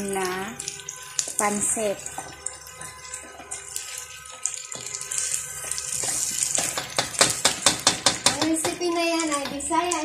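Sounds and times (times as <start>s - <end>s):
food sizzling in a wok: 0.0s - 10.0s
spatula stir-frying: 0.0s - 10.0s.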